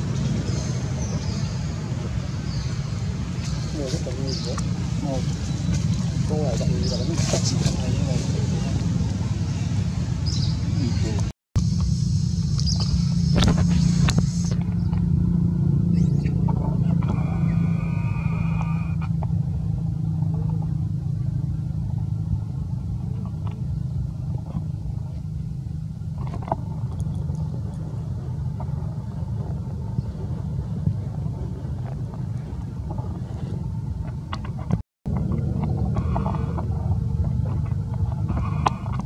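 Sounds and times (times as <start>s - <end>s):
low rumbling hum: 0.0s - 39.0s.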